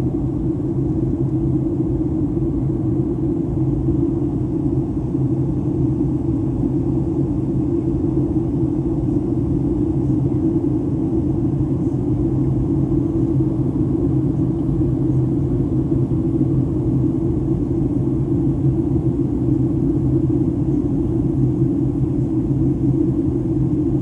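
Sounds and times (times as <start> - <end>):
airliner cabin engine rumble: 0.0 - 24.0
steady low hum: 0.0 - 24.0.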